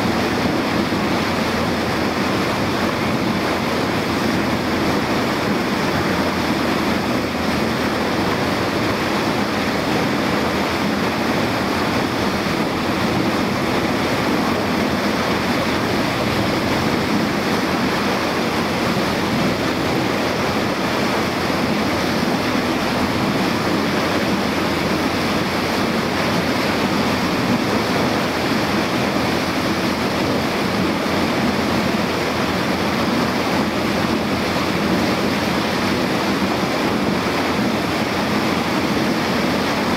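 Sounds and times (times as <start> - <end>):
boat motor running: 0.0 - 39.9
water along boat hull: 0.0 - 39.9.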